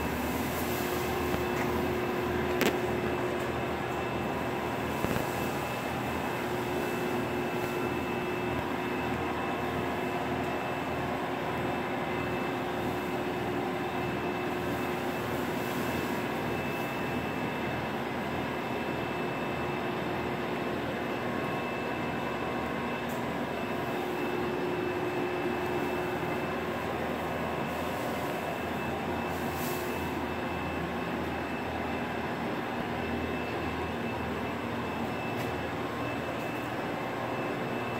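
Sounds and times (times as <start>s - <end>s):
low mechanical hum: 0.0s - 37.9s
thin high whine: 0.0s - 37.9s.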